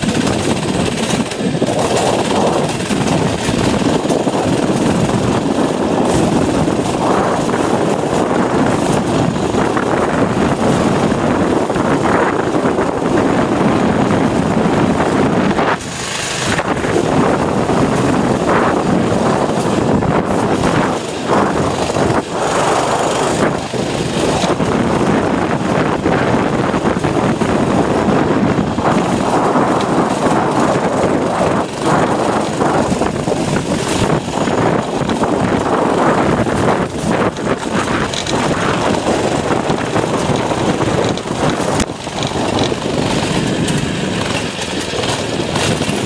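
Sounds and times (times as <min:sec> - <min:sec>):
small engine running: 0:00.0 - 0:46.0
wind noise on microphone: 0:00.0 - 0:46.0.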